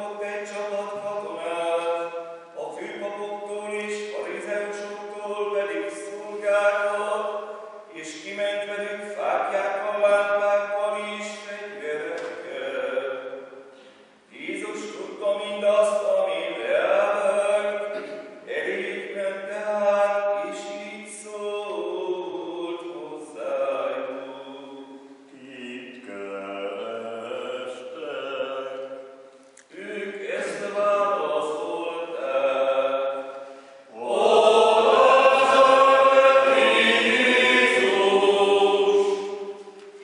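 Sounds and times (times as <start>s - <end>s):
men singing a hymn: 0.0s - 13.5s, 14.3s - 29.0s, 29.7s - 39.7s.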